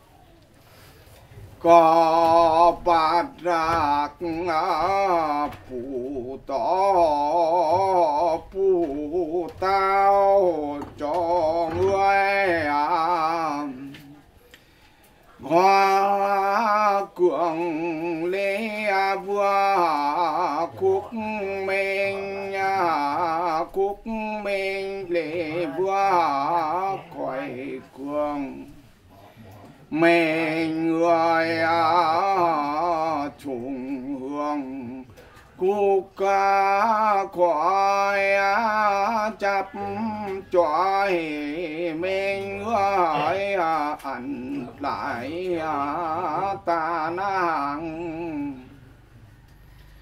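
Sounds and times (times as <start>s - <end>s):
man chanting: 1.3s - 14.4s, 15.4s - 49.2s.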